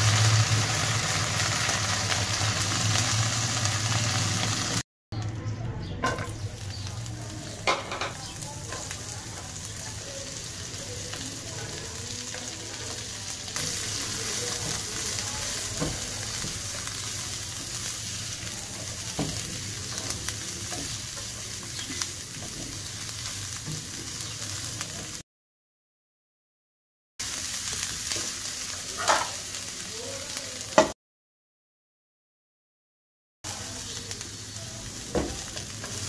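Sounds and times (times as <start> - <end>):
vegetables sizzling in oil: 0.0 - 4.8, 6.2 - 25.2, 27.2 - 31.0, 33.5 - 36.0.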